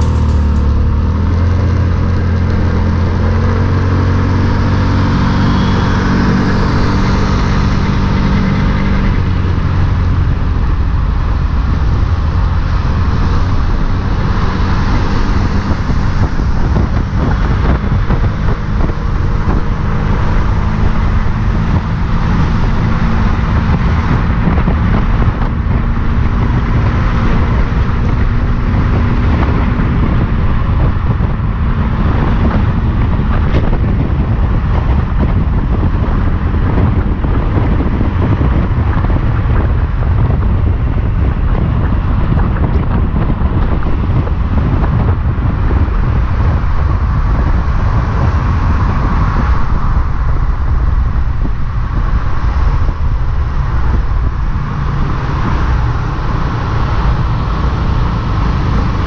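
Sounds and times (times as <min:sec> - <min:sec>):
road and tyre noise: 0:00.0 - 0:59.0
vehicle engine hum: 0:00.0 - 0:59.0.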